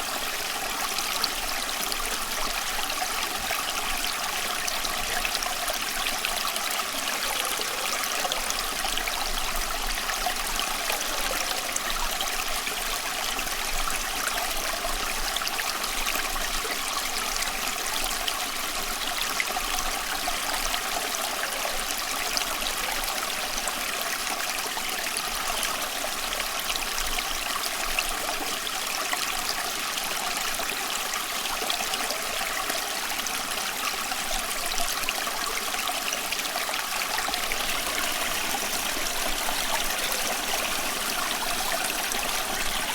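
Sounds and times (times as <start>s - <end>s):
stream babbling over stones: 0.0s - 42.9s.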